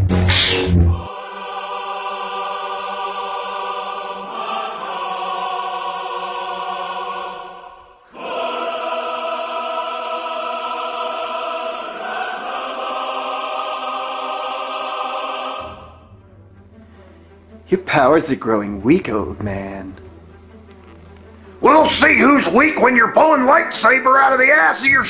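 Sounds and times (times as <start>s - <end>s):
choir-like music of held chords: 0.3s - 25.0s.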